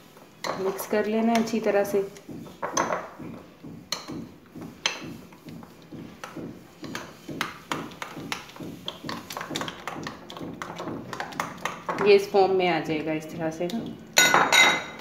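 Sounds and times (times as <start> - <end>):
paste mixed by hand strokes: 0.0 - 12.1.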